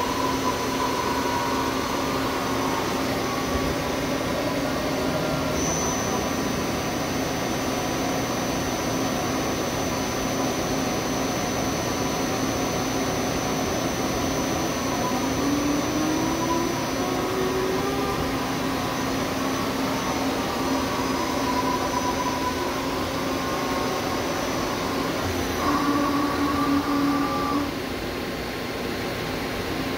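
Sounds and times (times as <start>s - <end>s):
faint whining tones: 0.0s - 27.8s
lathe machine hum: 0.0s - 28.1s
loud machine whine: 0.0s - 28.2s.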